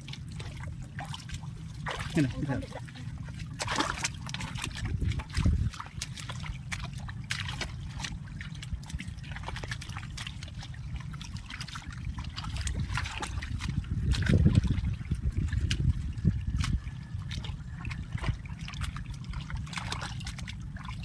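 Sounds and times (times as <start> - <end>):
dribbling water: 0.0 - 21.0
hands squelching in mud: 0.0 - 21.0
small splashes: 0.0 - 21.0.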